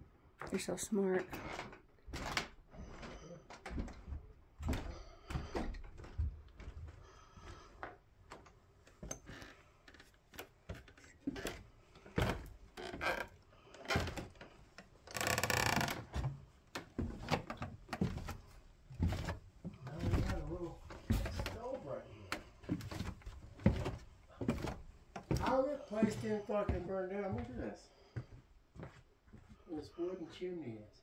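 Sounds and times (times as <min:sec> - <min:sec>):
floorboards creaking: 0:01.2 - 0:27.6
footsteps on wooden floorboards: 0:01.3 - 0:29.6.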